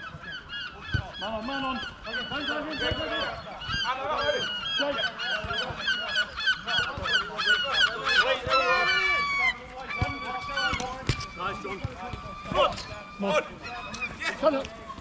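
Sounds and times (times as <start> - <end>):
geese honking: 0.0 - 14.6.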